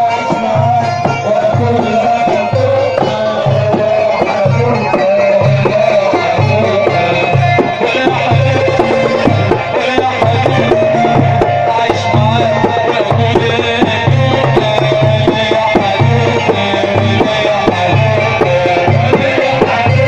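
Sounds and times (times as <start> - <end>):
wavering melody line: 0.0 - 19.9
hand-drum percussion: 0.0 - 20.0
pulsing bass beat: 0.4 - 20.0.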